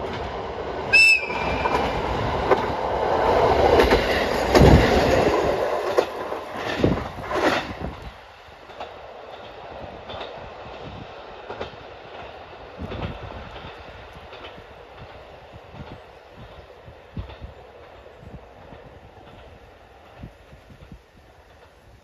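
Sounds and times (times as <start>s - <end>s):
diesel railcar rumbling: 0.0s - 22.0s
wheels clacking over rail joints: 0.0s - 22.0s.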